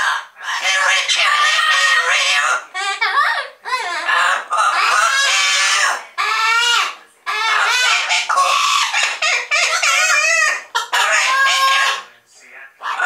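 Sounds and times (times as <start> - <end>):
parrots calling loudly: 0.0 - 12.1, 12.8 - 13.0.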